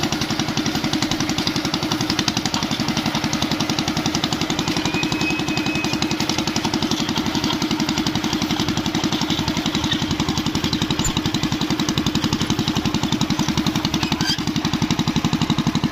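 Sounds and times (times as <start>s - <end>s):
threshing machine engine running: 0.0s - 15.9s.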